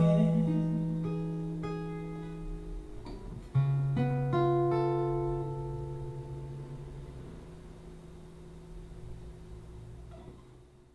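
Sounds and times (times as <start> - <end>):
acoustic guitar chords: 0.0 - 10.4.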